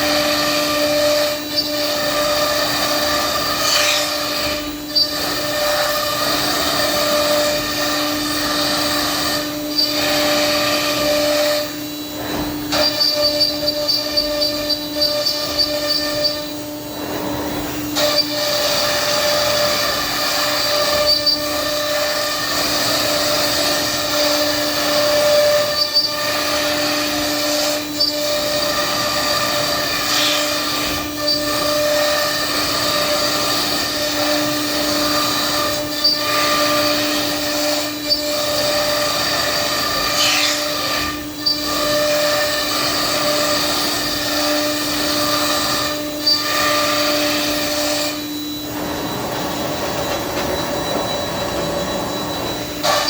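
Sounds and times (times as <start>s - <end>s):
router whining over rushing noise: 0.0s - 53.0s.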